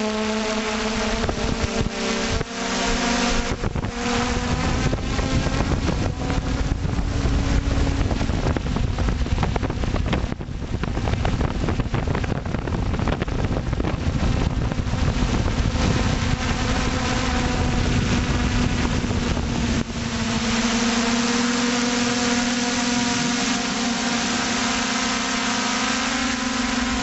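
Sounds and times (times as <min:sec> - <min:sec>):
drone motors humming: 0:00.0 - 0:27.0
wind buffeting microphone: 0:00.0 - 0:27.0.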